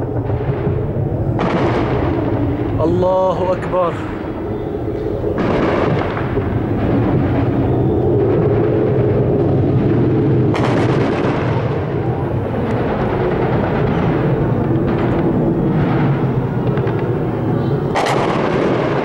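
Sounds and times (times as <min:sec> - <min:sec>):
jet warplane roaring overhead: 0:00.0 - 0:19.0.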